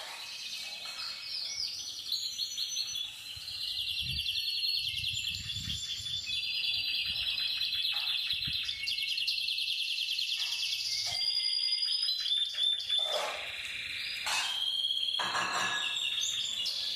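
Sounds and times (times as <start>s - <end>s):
canary singing trills: 0.0s - 16.9s.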